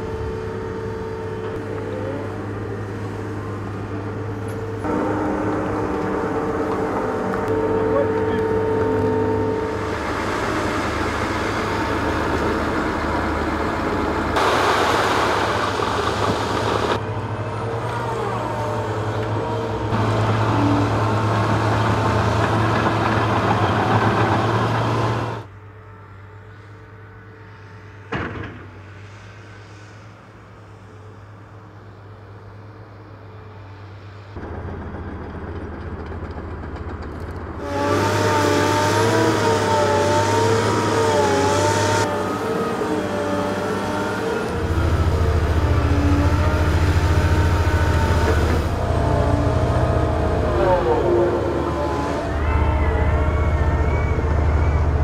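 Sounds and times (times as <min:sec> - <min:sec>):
heavy diesel machinery running: 0:00.0 - 0:26.4, 0:33.3 - 0:55.0.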